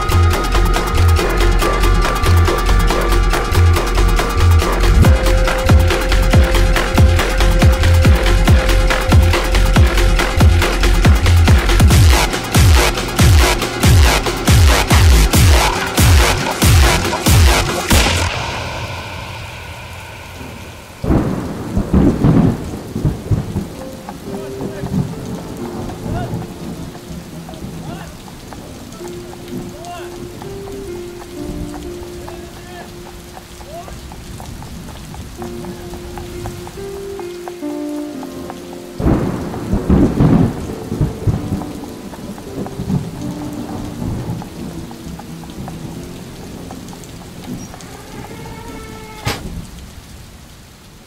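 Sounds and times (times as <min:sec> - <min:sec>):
thunderclap rolling: 0:00.0 - 0:32.5, 0:38.7 - 0:50.4
faint thunder rumbling: 0:00.0 - 0:51.0
rain falling steadily: 0:00.0 - 0:51.0.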